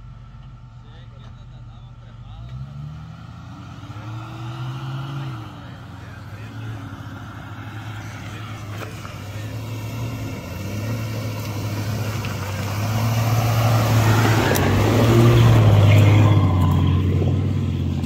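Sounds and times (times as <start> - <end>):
suv engine running under load: 0.0 - 18.0.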